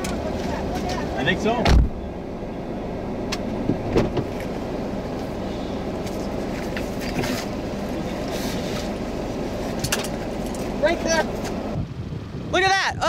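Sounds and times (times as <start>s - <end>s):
car engine rumble from cabin: 0.0s - 13.0s.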